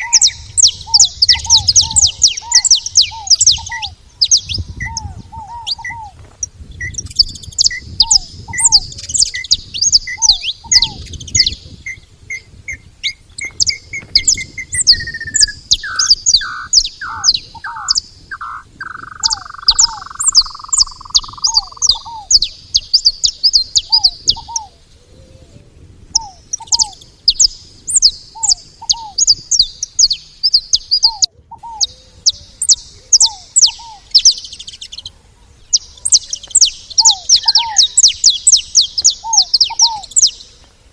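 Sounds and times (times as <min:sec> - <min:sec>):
finches chattering: 0:00.0 - 0:24.7, 0:26.1 - 0:40.7
short low downslurred bird notes: 0:00.0 - 0:40.6.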